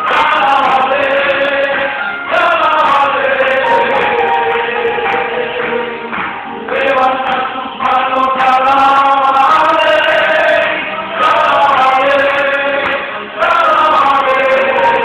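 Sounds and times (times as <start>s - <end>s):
men singing into a microphone: 0.0s - 15.0s.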